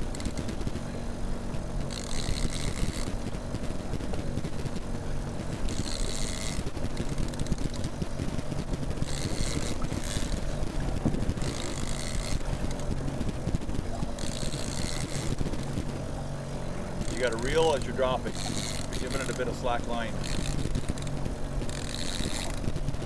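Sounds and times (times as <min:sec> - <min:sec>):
outboard motor running: 0:00.0 - 0:23.0
water noise: 0:00.0 - 0:23.0
wind: 0:00.0 - 0:23.0.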